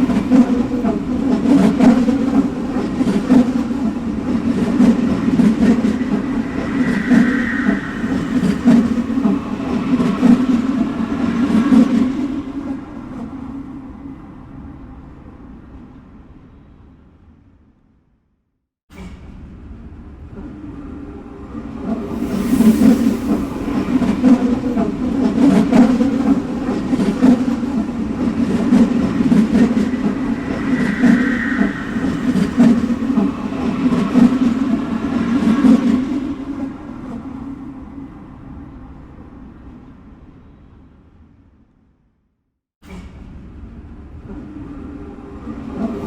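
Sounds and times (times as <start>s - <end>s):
subway train rumble: 0.0s - 17.5s, 19.0s - 41.5s, 42.9s - 46.0s.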